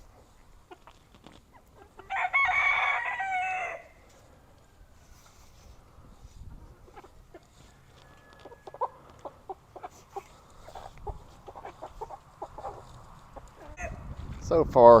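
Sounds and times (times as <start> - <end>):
chickens clucking: 0.0 - 2.2, 4.1 - 14.1.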